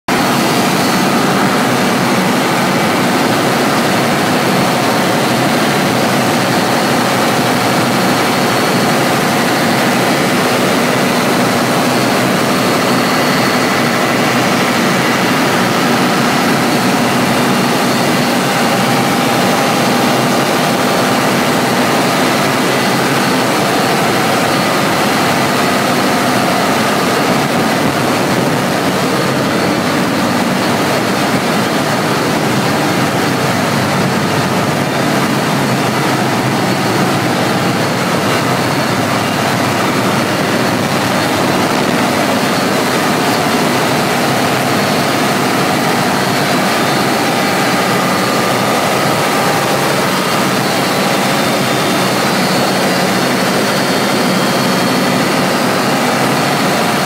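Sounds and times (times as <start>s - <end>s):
diesel generator running: 0.1s - 57.0s.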